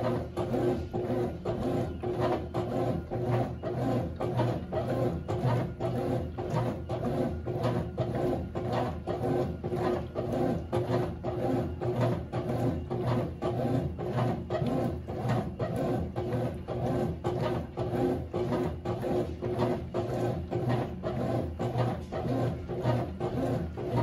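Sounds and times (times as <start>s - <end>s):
washing machine motor humming: 0.0s - 24.0s
washing machine swishing: 0.0s - 24.0s.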